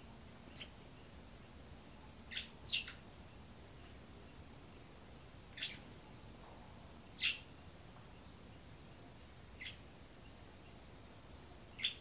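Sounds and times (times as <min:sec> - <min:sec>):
faint background hiss: 0:00.0 - 0:12.0
small bird chirping: 0:00.3 - 0:12.0.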